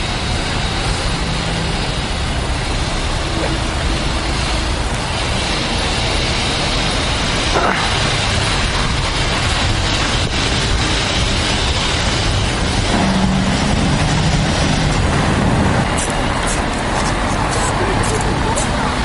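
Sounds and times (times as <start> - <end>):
road and vehicle noise: 0.0 - 19.0.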